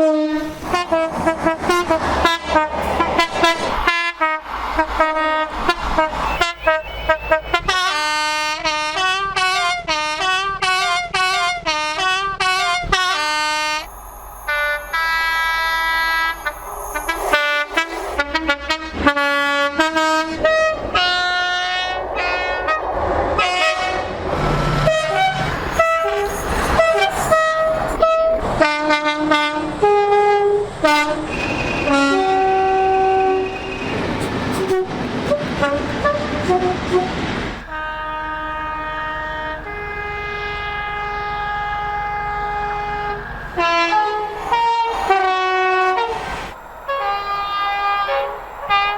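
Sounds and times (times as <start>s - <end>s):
two-tone train horn blasts: 0.0s - 13.9s, 14.5s - 46.2s
train whistles: 0.0s - 48.9s.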